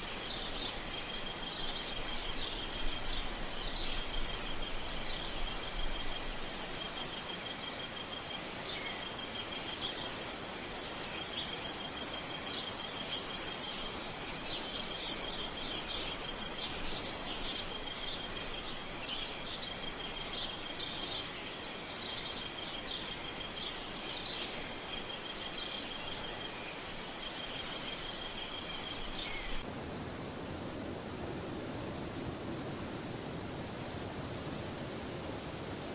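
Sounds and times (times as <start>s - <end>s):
insect chirps: 0.0s - 29.7s
insects trilling: 0.0s - 29.7s.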